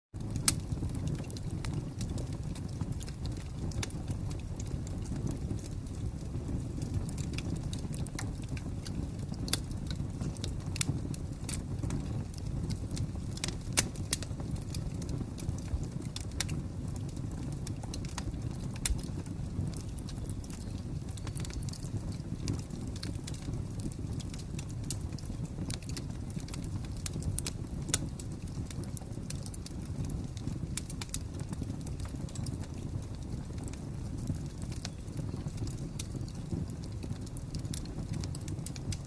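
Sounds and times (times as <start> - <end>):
fire crackling: 0.2 - 39.0.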